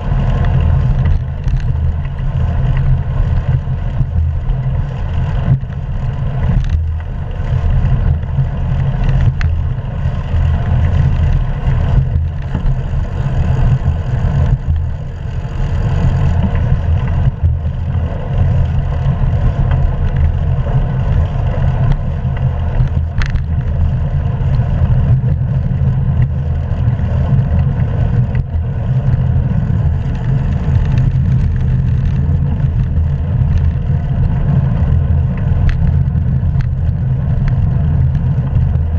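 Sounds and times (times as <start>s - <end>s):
bicycle tyre and road noise: 0.0s - 38.9s.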